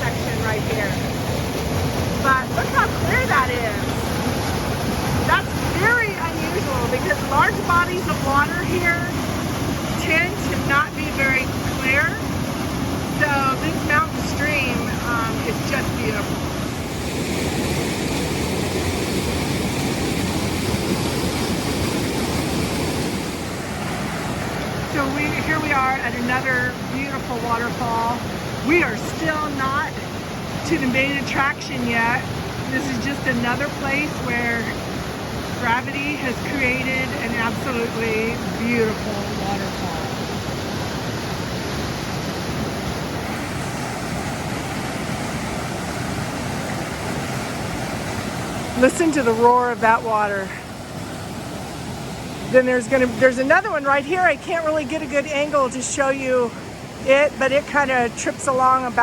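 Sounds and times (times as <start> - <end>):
water rushing over waterfall: 0.0 - 59.0.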